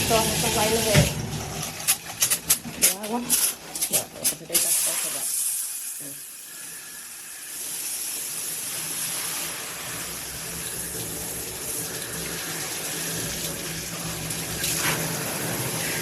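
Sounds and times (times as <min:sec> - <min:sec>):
shower head spraying water: 0:00.0 - 0:16.0.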